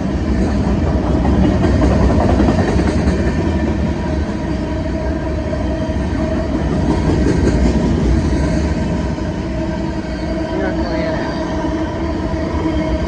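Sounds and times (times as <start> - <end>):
diesel freight train passing: 0.0 - 13.0.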